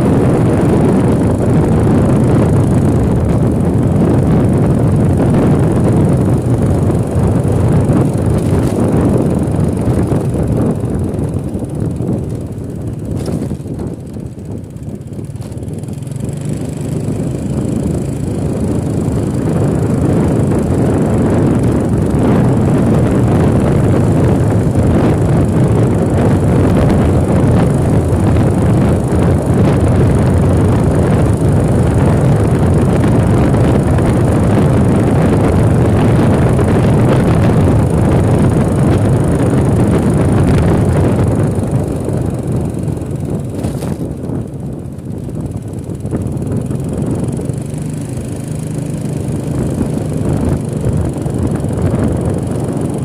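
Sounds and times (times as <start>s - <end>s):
vehicle moving: 0.0s - 53.0s
wind rushing over microphone: 0.0s - 53.0s.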